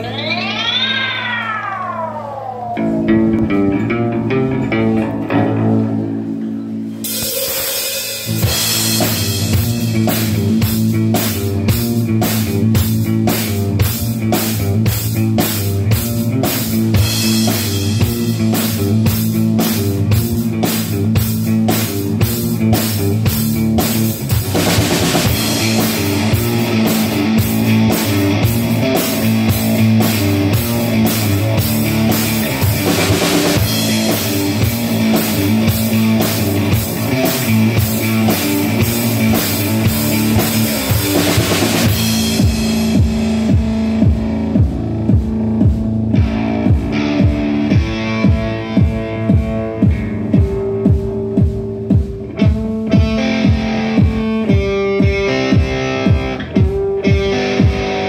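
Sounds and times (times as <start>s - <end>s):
electric guitar playing: 0.0s - 58.0s
rock drum beat: 6.9s - 58.0s.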